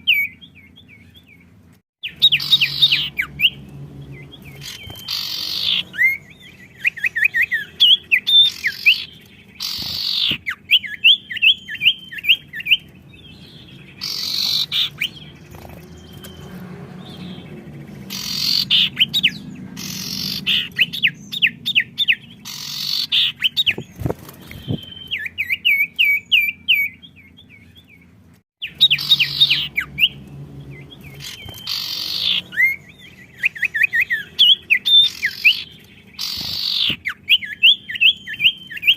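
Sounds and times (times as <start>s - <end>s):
harsh bird calls: 0.0s - 38.9s
songbirds chirping: 0.0s - 38.9s.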